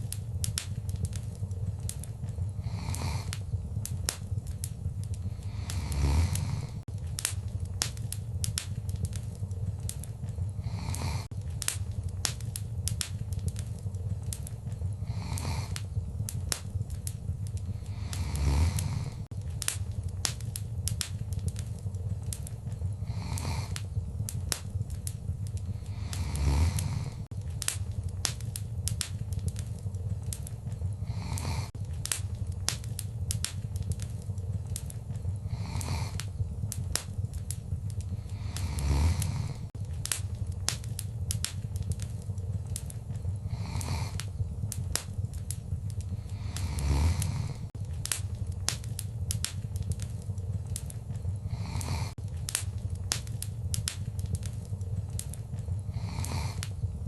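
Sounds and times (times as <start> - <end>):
low rumble of flames: 0.0 - 57.0
soft hissing: 0.0 - 57.0
wood fire crackling and popping: 0.0 - 57.0.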